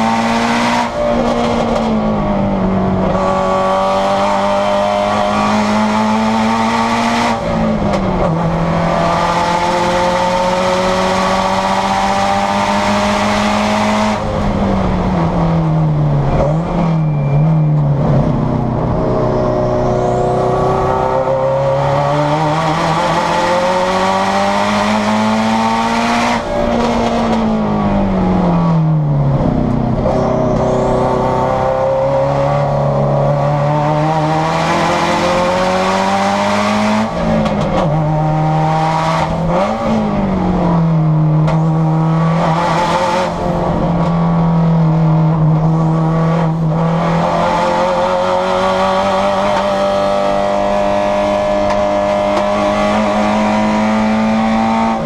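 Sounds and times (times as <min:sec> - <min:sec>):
race car engine from inside cabin: 0:00.0 - 0:55.0.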